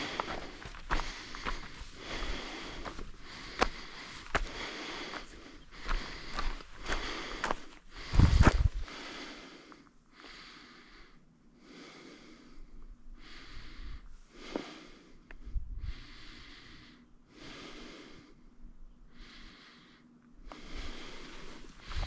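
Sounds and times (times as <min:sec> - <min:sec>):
person breathing hard: 0:00.0 - 0:22.0.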